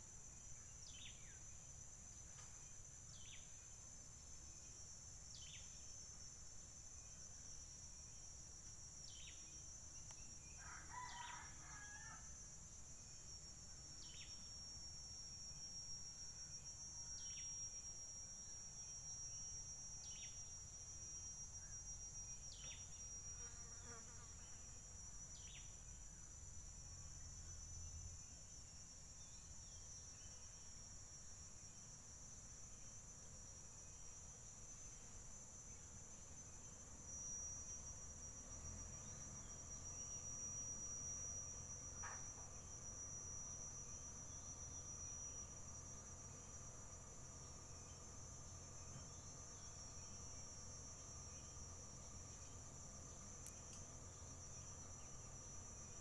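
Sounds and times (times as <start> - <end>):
high-pitched insect buzz: 0.0 - 56.0.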